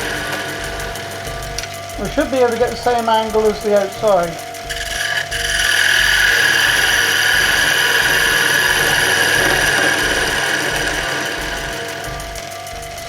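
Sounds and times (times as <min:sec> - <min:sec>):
chisel scraping spinning wood: 0:00.0 - 0:13.0
wood lathe whine: 0:00.0 - 0:13.0.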